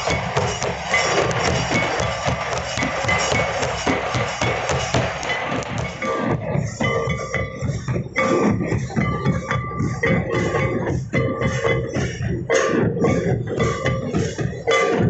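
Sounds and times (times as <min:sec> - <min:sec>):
kettledrums beaten fast: 0:00.0 - 0:15.0.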